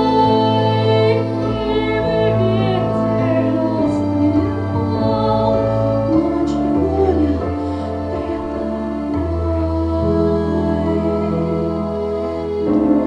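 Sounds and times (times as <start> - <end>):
woman singing with vibrato: 0.0 - 12.2
instrumental accompaniment: 0.0 - 13.0.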